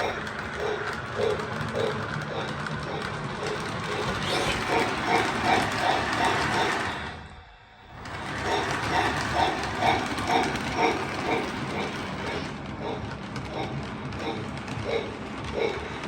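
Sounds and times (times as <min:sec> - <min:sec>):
model train clicking on track: 0:00.0 - 0:07.2, 0:07.9 - 0:16.0.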